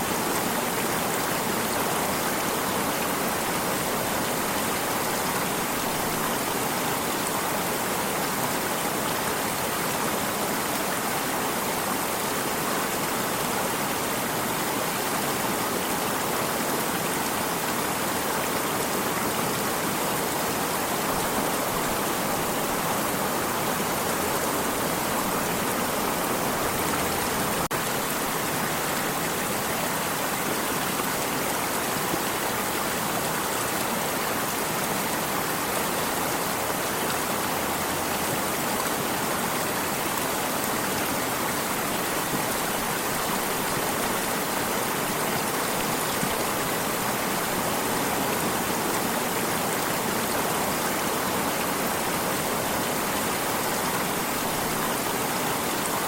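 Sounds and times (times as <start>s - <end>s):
water stream rushing: 0.0s - 56.0s.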